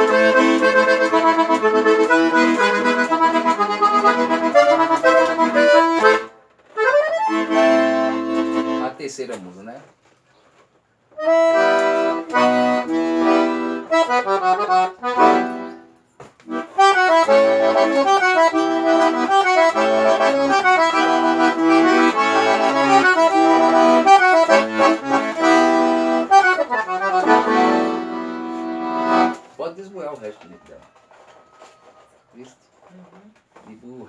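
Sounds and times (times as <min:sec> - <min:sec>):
accordion playing a tune: 0:00.0 - 0:09.2, 0:11.2 - 0:30.8.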